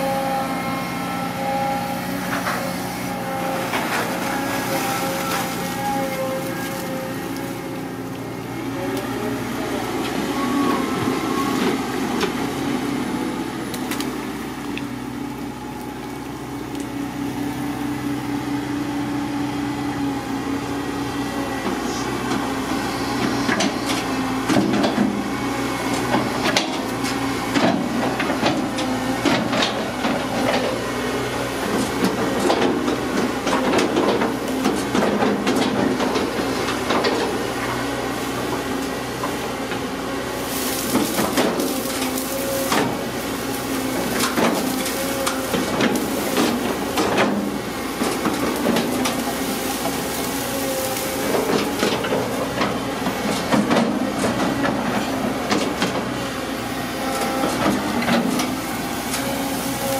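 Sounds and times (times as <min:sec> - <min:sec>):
excavator engine hum: 0:00.0 - 0:59.9.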